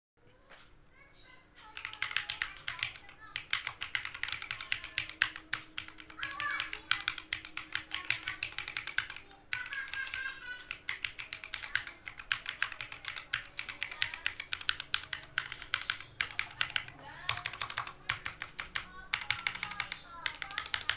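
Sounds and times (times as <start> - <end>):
mechanical keyboard typing: 1.6 - 20.9.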